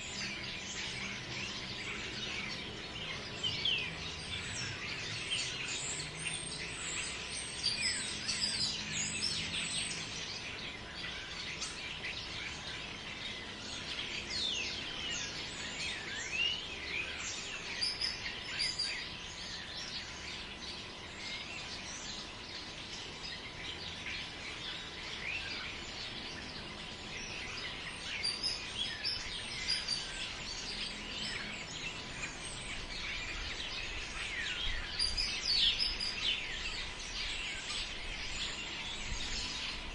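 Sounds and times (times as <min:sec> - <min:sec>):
small birds chirping and whistling: 0:00.0 - 0:39.9
soft steady background noise: 0:00.0 - 0:39.9.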